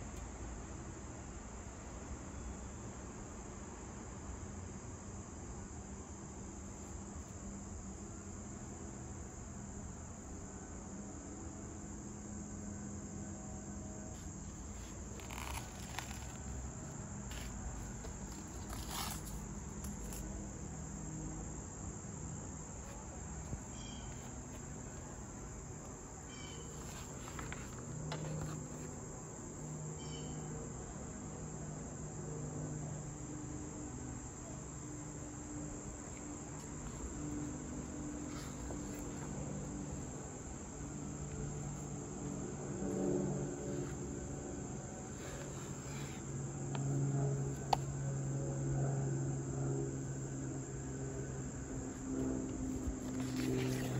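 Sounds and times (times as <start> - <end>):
crickets trilling: 4.7 - 53.9.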